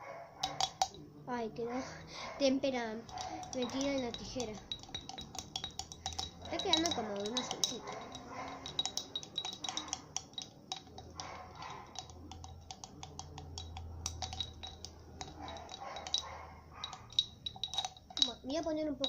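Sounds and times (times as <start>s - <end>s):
scissors tapping container sides: 3.1s - 18.8s.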